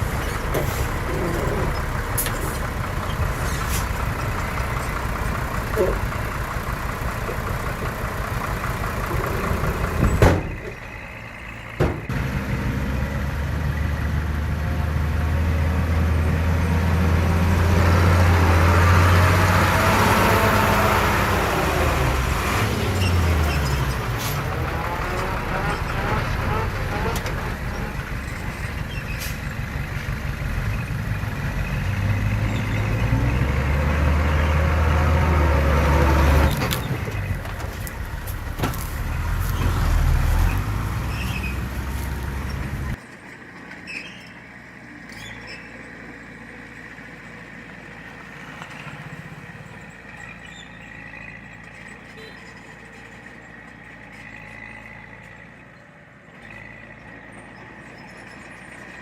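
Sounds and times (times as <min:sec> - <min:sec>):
diesel engine running hard: 0:00.0 - 0:59.0.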